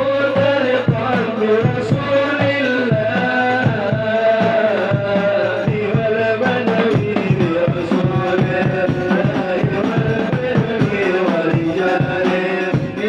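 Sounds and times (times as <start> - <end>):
hand drum beat: 0.1 - 13.0.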